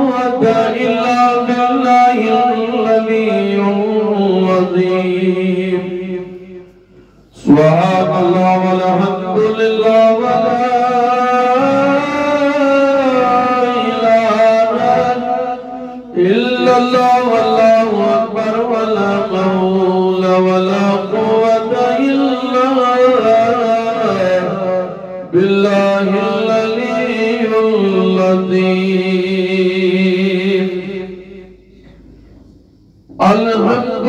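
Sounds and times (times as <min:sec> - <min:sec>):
man chanting devotional praise: 0:00.0 - 0:06.7, 0:07.3 - 0:31.7, 0:33.1 - 0:34.0.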